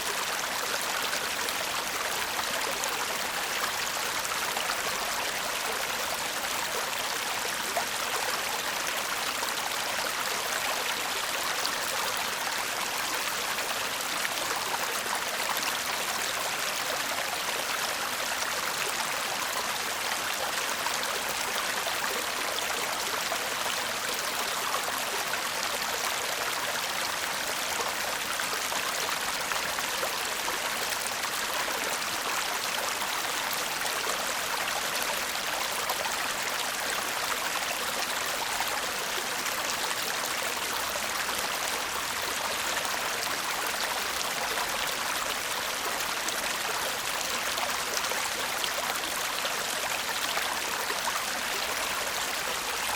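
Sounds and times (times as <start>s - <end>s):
stream babbling over stones: 0.0s - 52.9s.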